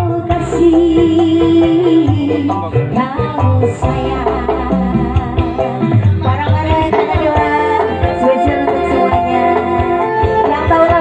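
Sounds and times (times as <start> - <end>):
keyboard and heavy bass: 0.0 - 11.0
woman singing: 0.0 - 11.0.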